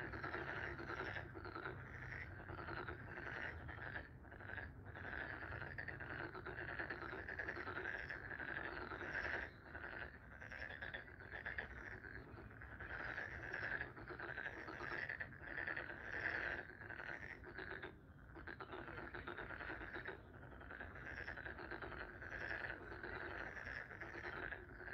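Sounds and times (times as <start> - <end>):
frogs croaking: 0.0 - 24.9.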